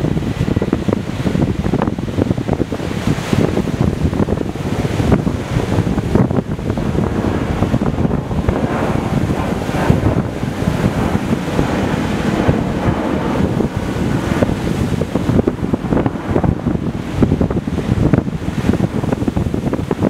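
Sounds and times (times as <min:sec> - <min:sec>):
surf breaking on rocks: 0:00.0 - 0:20.0
wind buffeting microphone: 0:00.0 - 0:20.0.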